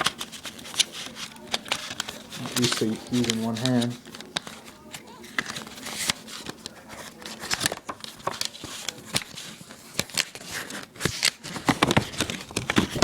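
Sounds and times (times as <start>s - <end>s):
cd case clicks and rustles: 0.0s - 13.0s.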